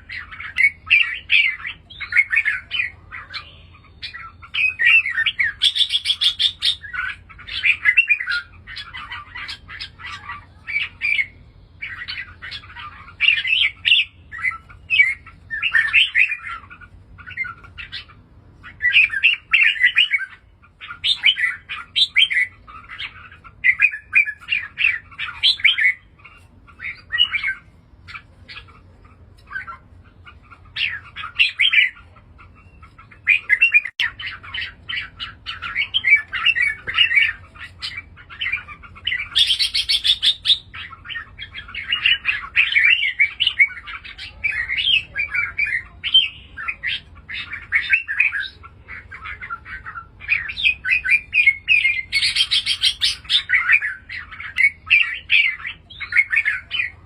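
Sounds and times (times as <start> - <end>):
bird singing chattering phrases: 0.0 - 57.0.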